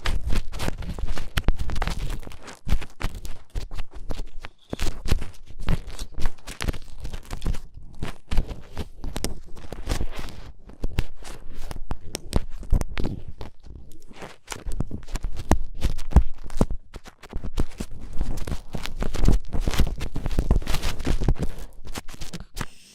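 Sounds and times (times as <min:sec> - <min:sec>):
earpick scraping microphone: 0:00.0 - 0:22.9.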